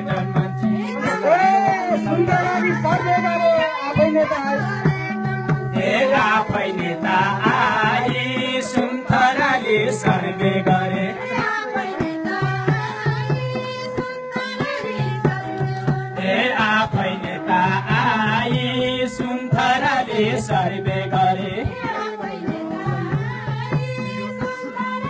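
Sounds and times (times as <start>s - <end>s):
electronic keyboard notes: 0.0s - 25.0s
hand drum: 0.0s - 25.0s
people singing folk song: 0.0s - 25.0s.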